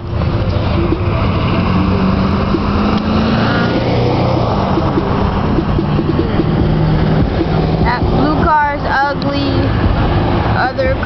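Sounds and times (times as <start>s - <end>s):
cars and van driving past: 0.0s - 11.0s
low engine hum: 0.0s - 11.0s.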